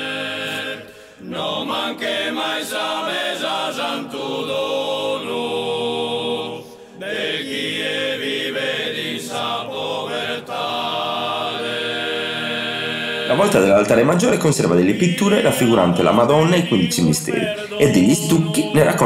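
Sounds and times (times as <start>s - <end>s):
choir singing a cappella: 0.0s - 19.0s.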